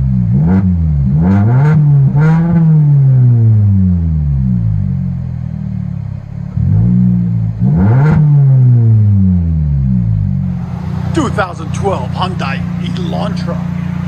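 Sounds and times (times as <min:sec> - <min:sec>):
loud raspy car exhaust revving: 0:00.0 - 0:14.0.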